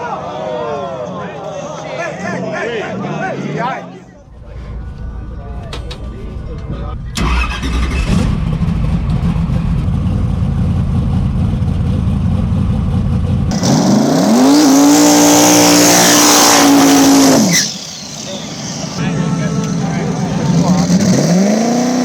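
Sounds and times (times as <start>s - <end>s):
race car engine rumbling and revving: 4.3s - 22.0s.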